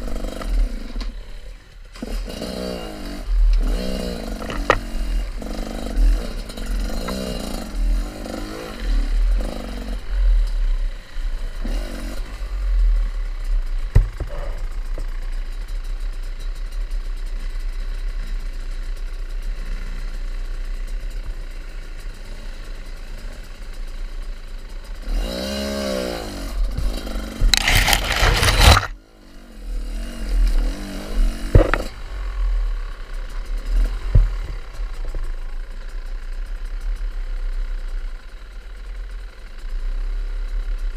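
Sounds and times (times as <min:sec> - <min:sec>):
off-road motorcycle engine: 0:00.0 - 0:40.9.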